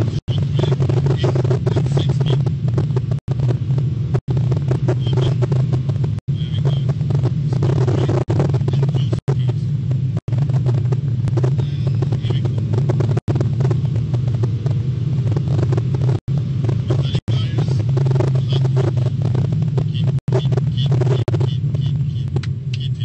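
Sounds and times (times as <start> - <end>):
car engine droning loudly: 0.0 - 23.0.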